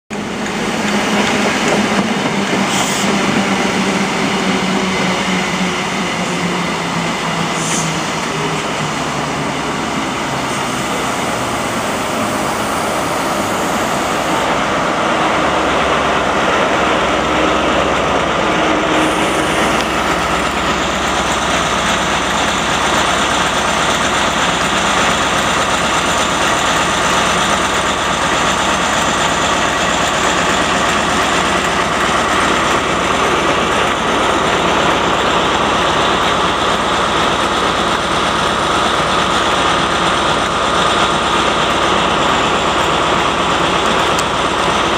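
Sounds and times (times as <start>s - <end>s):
diesel locomotive engine: 0.1s - 44.9s
train wheels on rails: 0.1s - 44.9s.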